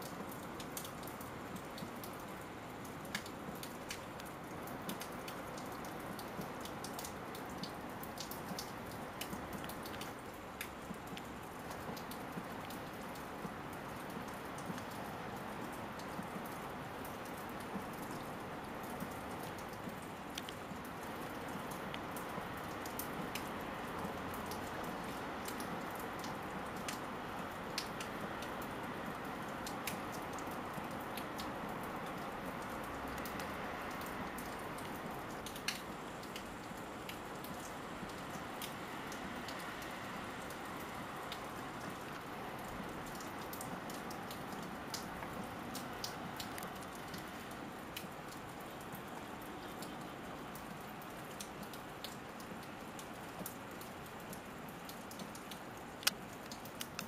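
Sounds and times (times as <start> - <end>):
raindrops ticking: 0.0 - 57.0
steady rain: 0.0 - 57.0.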